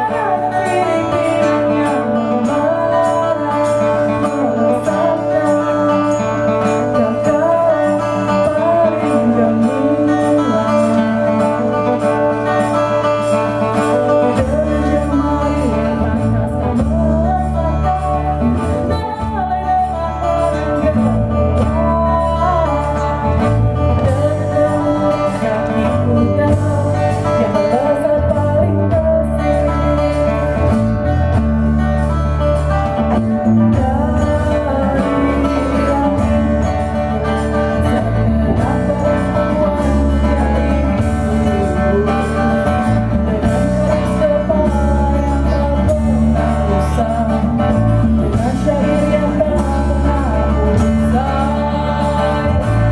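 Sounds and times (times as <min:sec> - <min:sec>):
women singing: 0:00.0 - 0:30.9, 0:33.1 - 0:52.9
acoustic guitar: 0:00.0 - 0:52.9
hand drum: 0:00.0 - 0:52.9
low bass line: 0:00.0 - 0:52.9.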